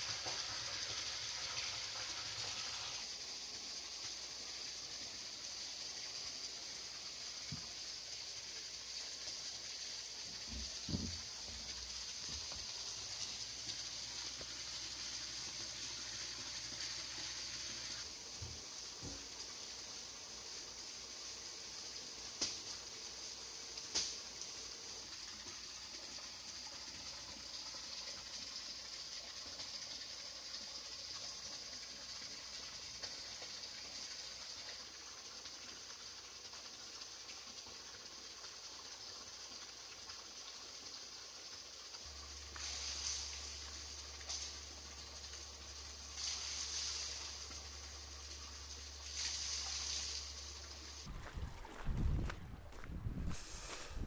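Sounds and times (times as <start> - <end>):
hiss of moving water: 0.0 - 54.0.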